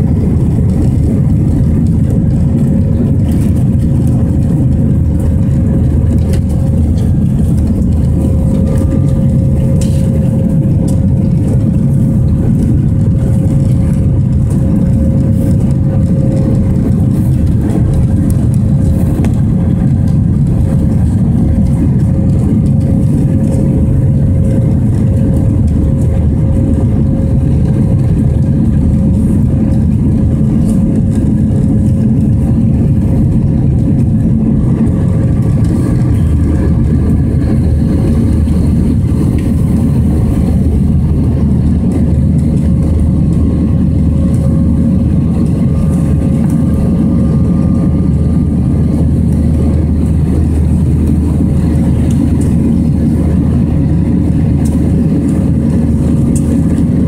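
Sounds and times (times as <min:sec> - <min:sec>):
deep low drone: 0:00.0 - 0:57.0
jet engines and rushing air: 0:00.0 - 0:57.0.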